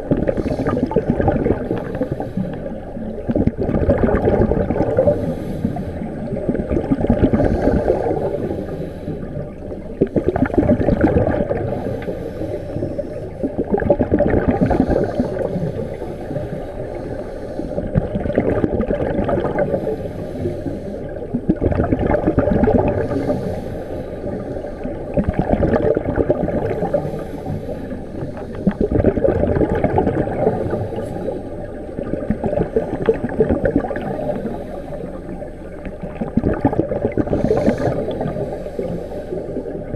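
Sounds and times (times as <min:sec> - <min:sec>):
underwater regulator exhaust bubbles: 0:00.0 - 0:39.9.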